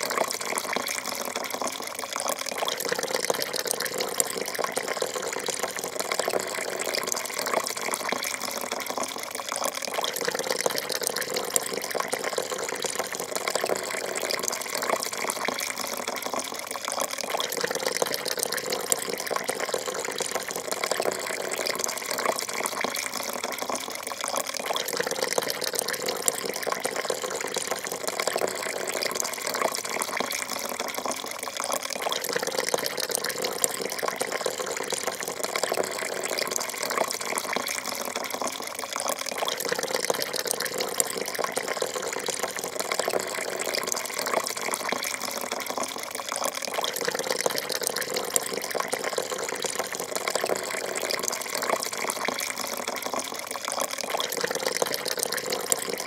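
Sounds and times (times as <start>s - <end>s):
coffee pouring into a cup: 0.0s - 56.0s.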